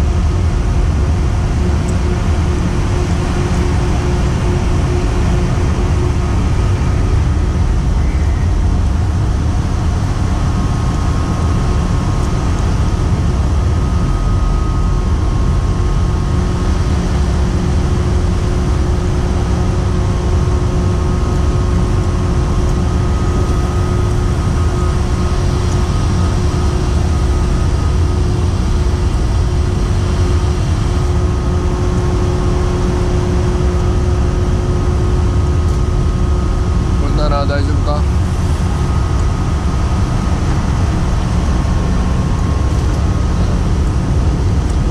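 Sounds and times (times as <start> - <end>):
mid-pitched hum: 0.0 - 44.9
ship machinery rumble: 0.0 - 44.9.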